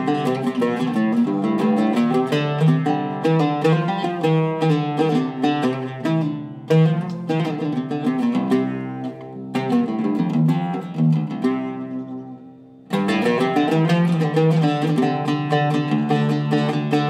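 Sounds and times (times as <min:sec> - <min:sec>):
oud plucked melody: 0:00.0 - 0:17.0.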